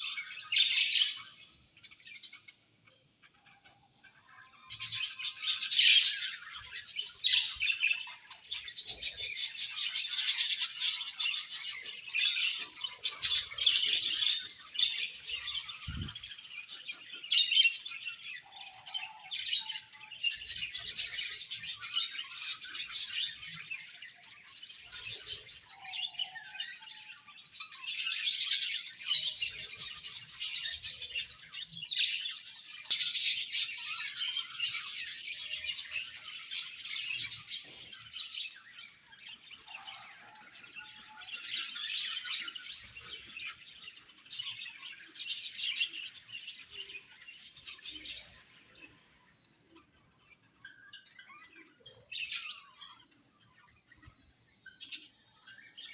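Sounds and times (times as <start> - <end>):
budgerigars chirping and chattering: 0.0 - 55.9.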